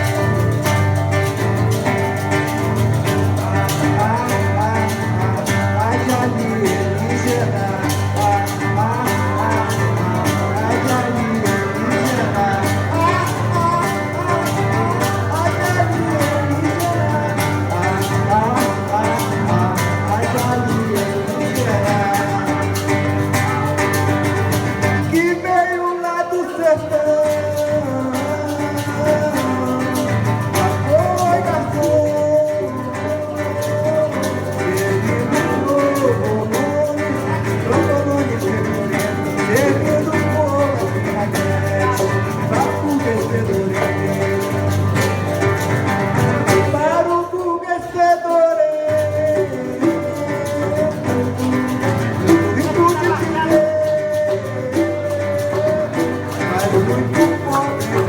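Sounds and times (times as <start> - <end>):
nylon-string acoustic guitar: 0.0 - 58.0
person singing: 0.0 - 58.0.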